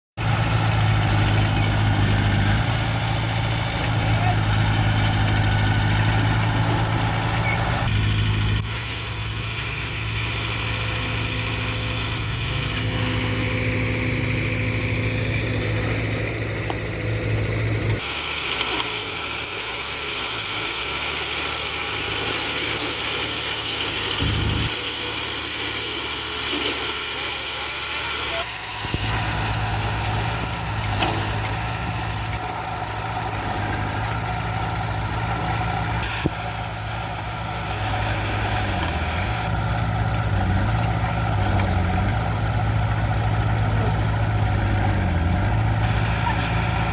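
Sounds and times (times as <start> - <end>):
heavy diesel machines running: 0.1 - 46.9.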